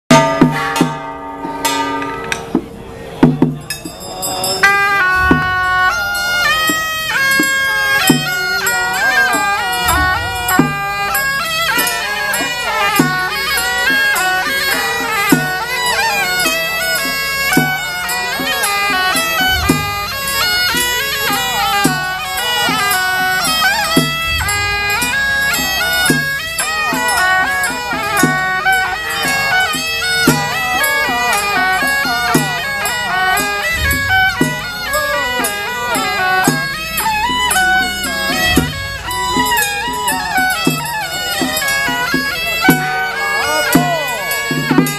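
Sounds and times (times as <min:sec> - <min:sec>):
drum strokes: 0:00.1 - 0:44.9
shawm playing a winding melody: 0:00.1 - 0:44.9.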